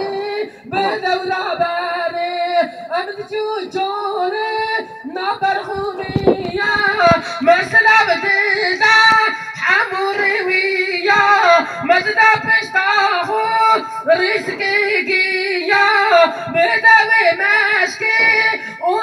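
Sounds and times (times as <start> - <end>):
boy singing over loudspeaker: 0.0 - 19.0.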